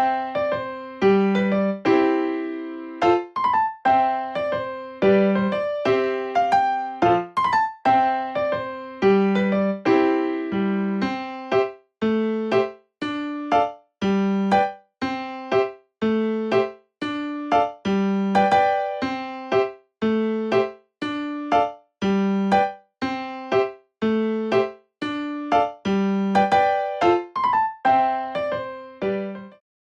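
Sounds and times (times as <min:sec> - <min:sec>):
gentle piano tune: 0:00.0 - 0:29.6.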